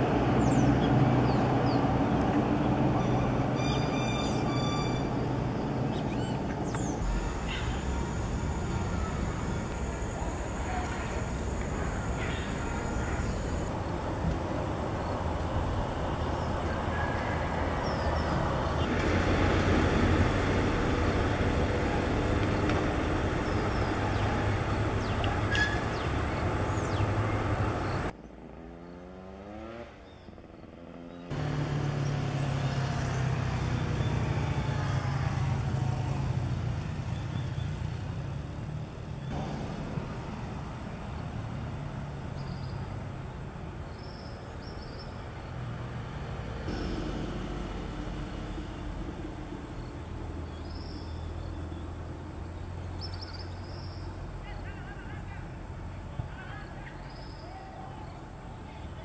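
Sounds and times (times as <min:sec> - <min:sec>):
faint engine tone: 0:00.0 - 0:59.0
motor vehicle hum: 0:00.0 - 0:59.0.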